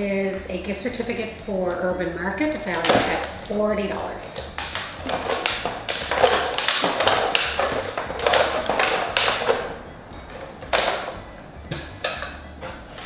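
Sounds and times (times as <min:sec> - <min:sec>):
paper tickets tumbling in barrel: 0:02.4 - 0:13.0.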